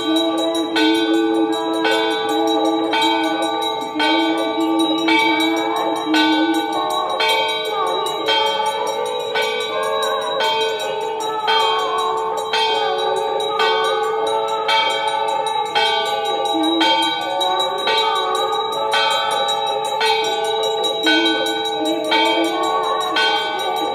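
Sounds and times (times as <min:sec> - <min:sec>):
temple bell ringing: 0:00.0 - 0:23.9.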